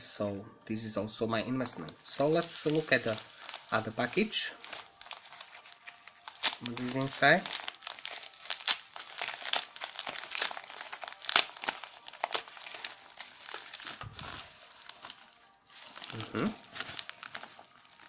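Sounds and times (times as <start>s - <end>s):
packaging crinkling: 1.7s - 18.0s.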